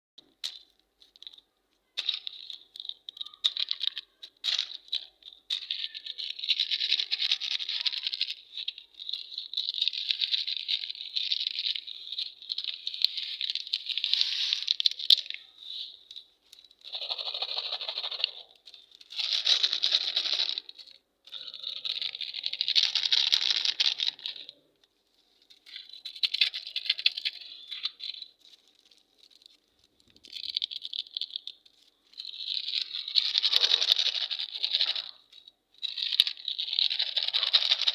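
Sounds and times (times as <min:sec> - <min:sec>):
candy wrappers crinkling: 0:00.2 - 0:37.9.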